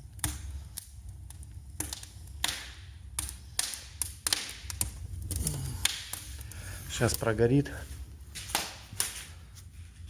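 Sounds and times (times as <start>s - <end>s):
low steady rumble: 0.0s - 8.4s
firewood crackling and popping: 0.0s - 10.0s.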